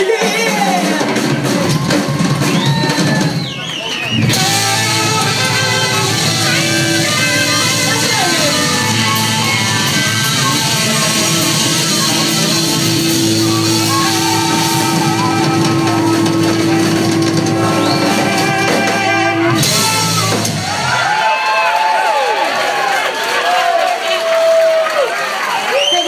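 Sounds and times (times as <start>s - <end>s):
blues-rock band playing: 0.0s - 21.2s.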